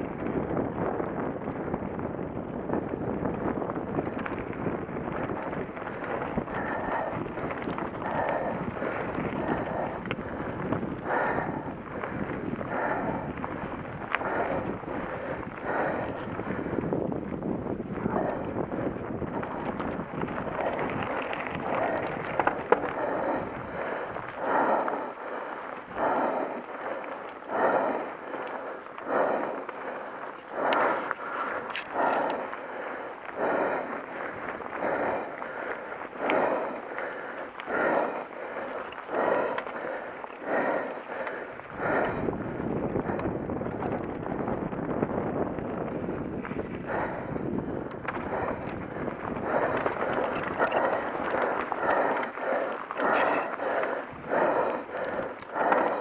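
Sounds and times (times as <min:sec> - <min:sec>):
light bike clicks: 0:00.1 - 0:56.0
person breathing hard: 0:05.4 - 0:44.7, 0:46.0 - 0:56.0.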